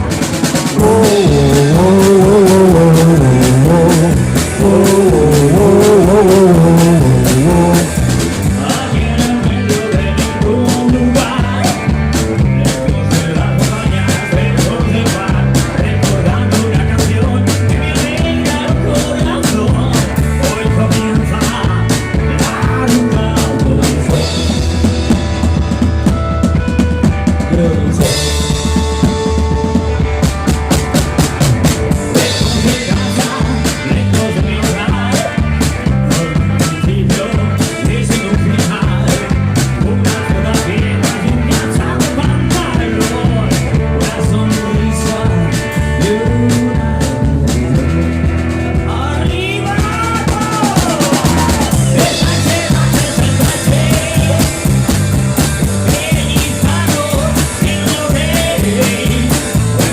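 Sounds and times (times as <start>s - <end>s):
live rock band playing: 0.0s - 59.9s
sliding lead guitar line: 0.0s - 59.9s.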